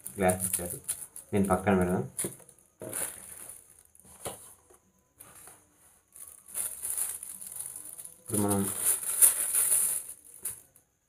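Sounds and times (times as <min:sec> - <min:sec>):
plastic bag crinkling: 0:00.0 - 0:04.3, 0:06.1 - 0:10.9.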